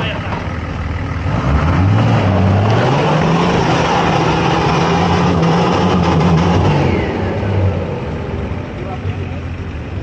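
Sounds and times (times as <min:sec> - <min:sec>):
vehicle engine revving: 0:00.8 - 0:09.8.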